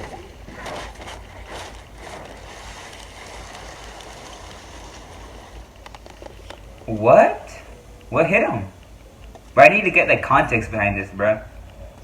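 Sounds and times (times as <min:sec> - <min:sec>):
faint clicks: 0:00.0 - 0:09.8, 0:11.5 - 0:12.0.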